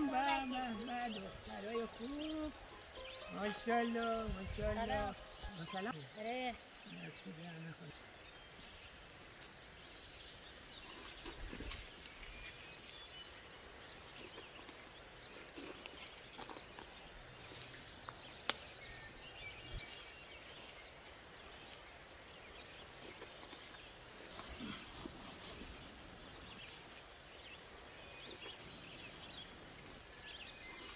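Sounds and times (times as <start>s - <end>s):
rustles of figs on dry ground: 0.0s - 5.6s, 8.0s - 30.9s.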